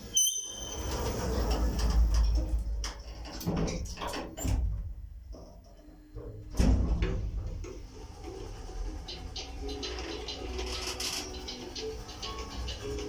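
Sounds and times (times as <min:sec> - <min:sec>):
elevator car starting clunk: 0:00.0 - 0:04.9, 0:06.2 - 0:13.0
elevator doors clicking and knocking: 0:00.0 - 0:13.0
low hum of elevator travelling: 0:00.0 - 0:13.0.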